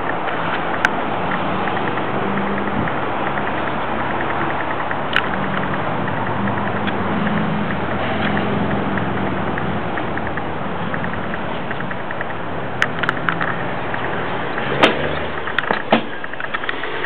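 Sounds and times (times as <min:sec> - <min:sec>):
sharp click: 0:00.0 - 0:16.8
engine humming: 0:00.0 - 0:17.0.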